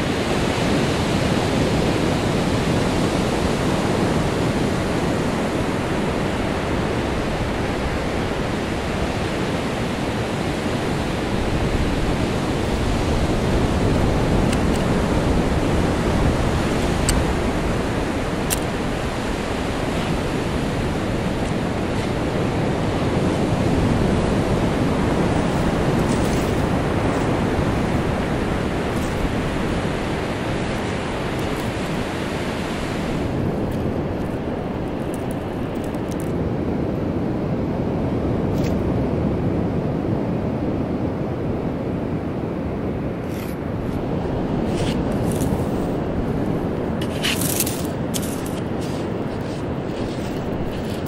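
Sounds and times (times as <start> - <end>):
ocean waves breaking on beach: 0.0 - 51.0.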